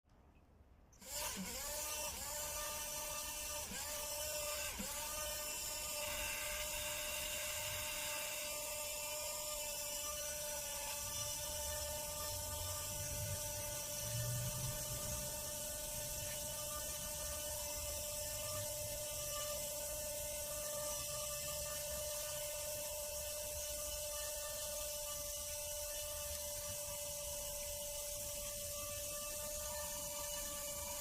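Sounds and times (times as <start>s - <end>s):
rc helicopter rotor whine: 1.0s - 31.0s.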